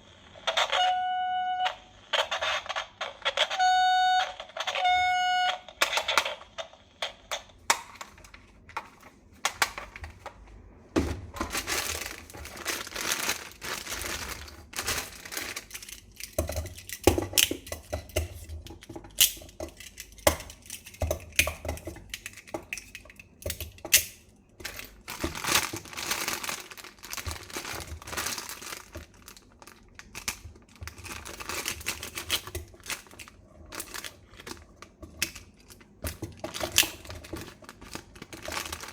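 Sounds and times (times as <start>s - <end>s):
plastic parts clicking: 5.5s - 10.4s, 11.4s - 38.9s
plastic packaging crinkling: 7.5s - 38.9s.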